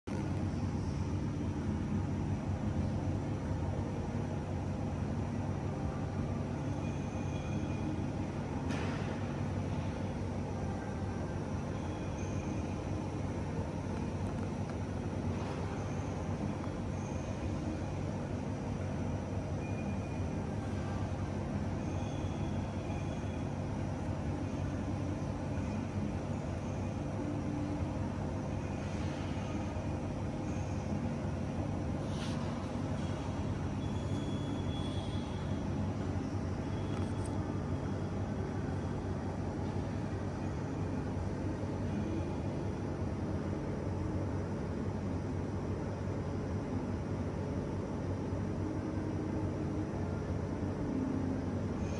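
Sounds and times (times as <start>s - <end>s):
faint constant hum: 0.0s - 51.9s
low background rumble: 0.0s - 51.9s.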